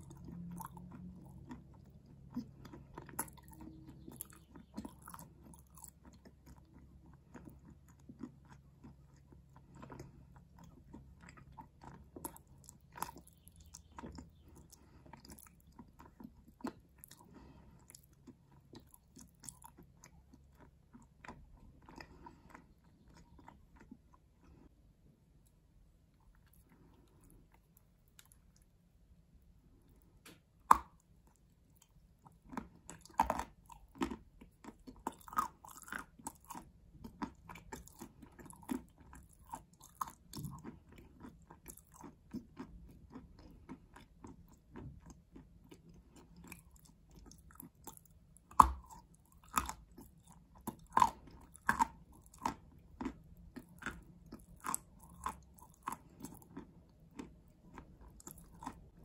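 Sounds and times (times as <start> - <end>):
crunchy chewing of chalk: 0.0 - 59.0.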